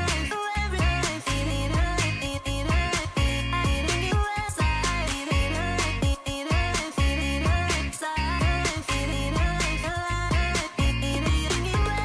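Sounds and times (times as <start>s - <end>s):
pop music with deep bass: 0.0s - 12.0s.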